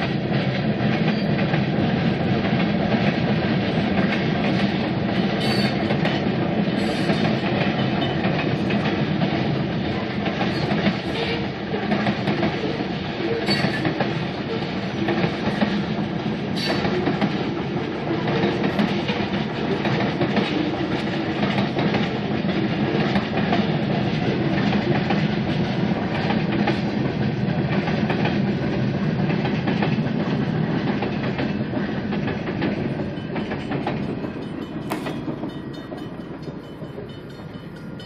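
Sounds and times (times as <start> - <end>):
freight train wheels on rails: 0.0 - 38.0.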